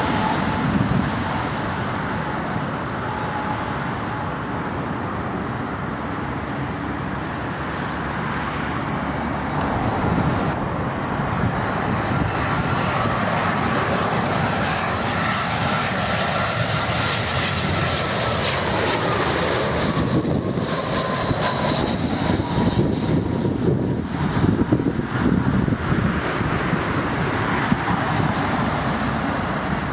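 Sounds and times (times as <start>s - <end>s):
jet airliner engines passing: 0.0s - 29.9s.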